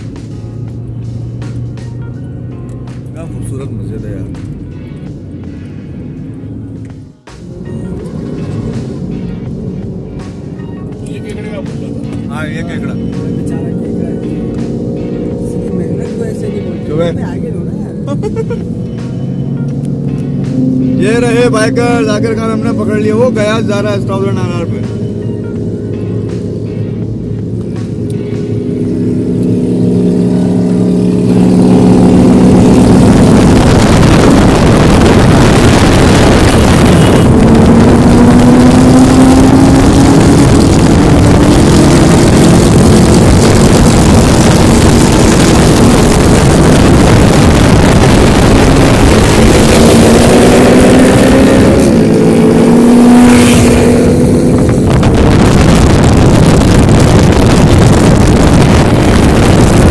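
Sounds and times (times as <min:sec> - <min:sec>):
wind and road noise: 0:00.0 - 0:59.9
motorcycle engines revving: 0:04.3 - 0:59.9.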